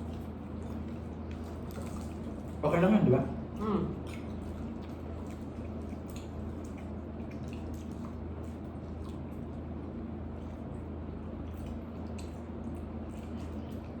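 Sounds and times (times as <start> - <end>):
people chewing wetly: 0.0 - 14.0.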